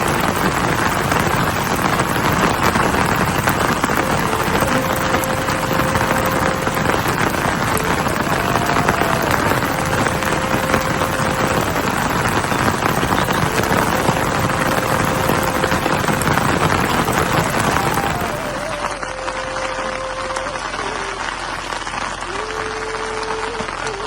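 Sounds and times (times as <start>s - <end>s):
faint steady tone: 0.0s - 21.2s
heavy rain falling: 0.0s - 24.0s.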